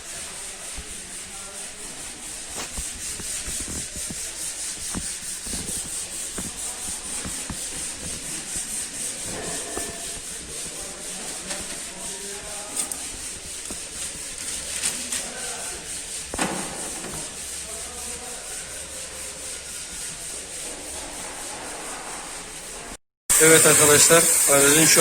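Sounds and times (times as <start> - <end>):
hand rubbing car body: 0.0 - 23.0.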